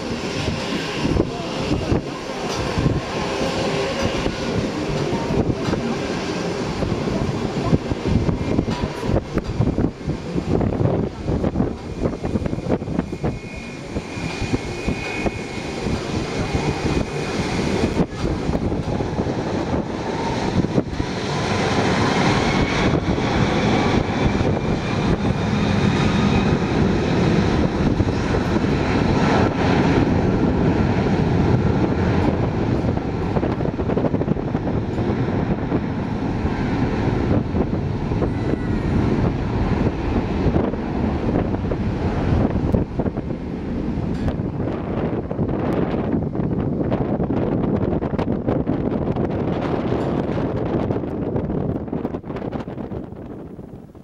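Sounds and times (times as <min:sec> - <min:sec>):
jet engines spooling up: 0:00.0 - 0:53.4.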